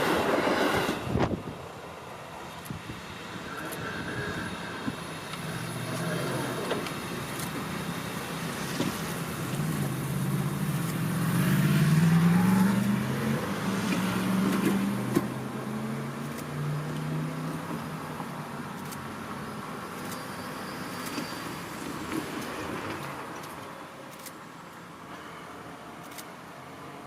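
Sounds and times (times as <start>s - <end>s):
passing vehicle hum: 0.0s - 27.0s.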